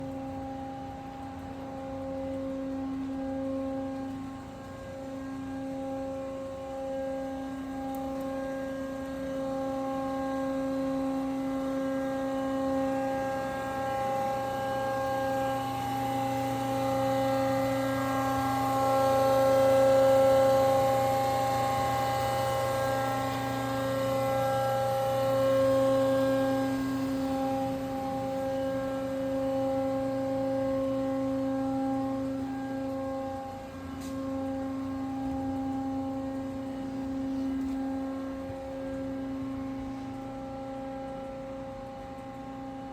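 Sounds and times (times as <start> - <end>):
bandsaw machine hum: 0.0 - 42.9.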